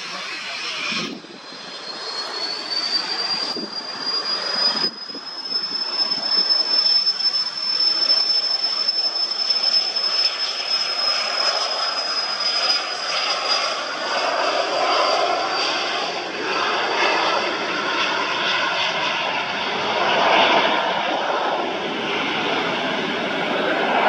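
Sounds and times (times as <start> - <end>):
jet turbofans whining: 0.0 - 24.0
rushing jet noise: 0.0 - 24.0.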